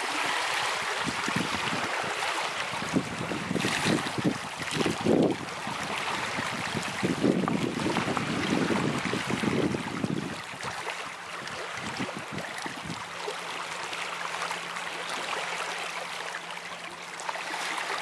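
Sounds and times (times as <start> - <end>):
small waves lapping over stones: 0.0 - 18.0.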